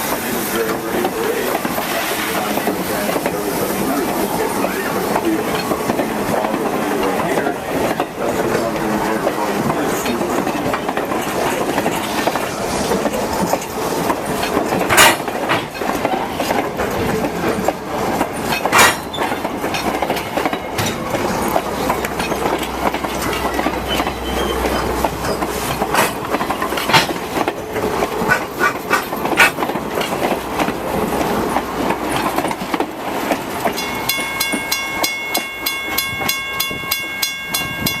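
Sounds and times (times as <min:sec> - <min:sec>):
train running noise: 0:00.0 - 0:38.0
wheels clicking over rail joints: 0:04.6 - 0:38.0.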